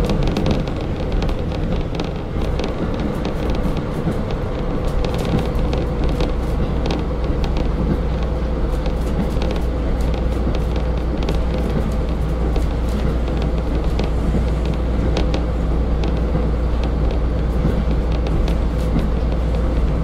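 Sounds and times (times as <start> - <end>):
deep diesel engine drone: 0.0 - 20.0
wheels running on rails: 0.0 - 20.0.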